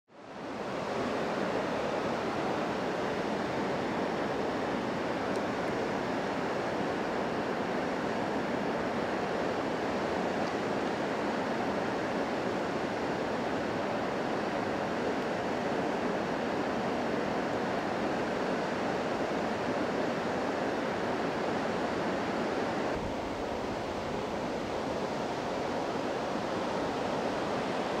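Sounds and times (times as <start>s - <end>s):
river rushing over weir and rapids: 0.1s - 28.0s.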